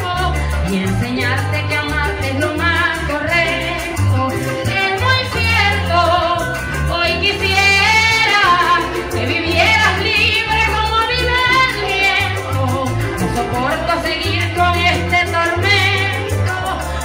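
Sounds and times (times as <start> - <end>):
amplified accompaniment with bass: 0.0 - 17.0
woman singing into a microphone: 0.0 - 17.0.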